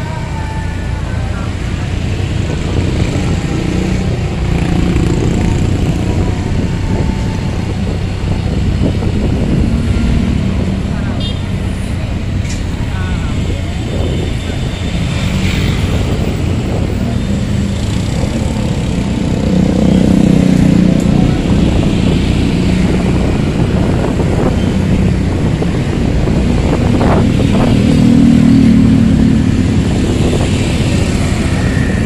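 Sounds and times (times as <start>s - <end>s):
motorcycle engines in traffic: 0.0s - 32.0s.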